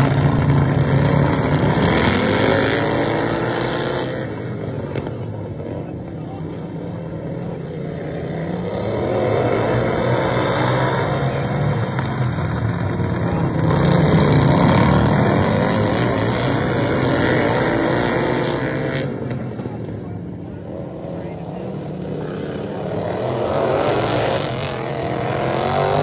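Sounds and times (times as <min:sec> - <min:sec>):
small engines at full throttle: 0:00.0 - 0:26.0.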